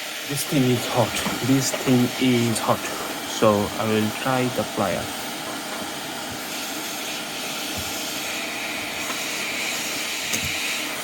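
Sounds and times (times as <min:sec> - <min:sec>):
hot air station blowing: 0:00.0 - 0:11.0.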